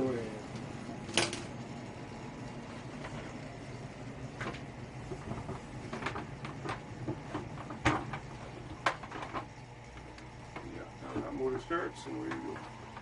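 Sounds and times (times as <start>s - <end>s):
furnace motor humming: 0.0s - 13.0s.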